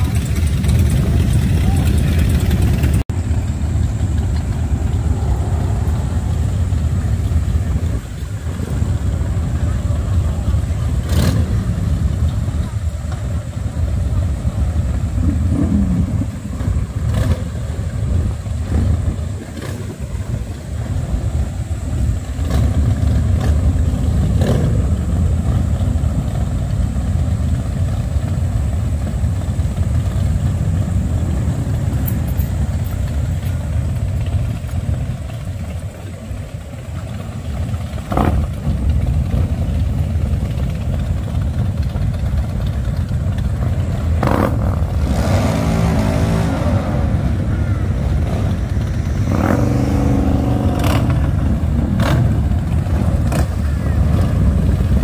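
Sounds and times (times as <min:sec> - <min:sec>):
motorcycles rumbling and revving: 0:00.0 - 0:55.0.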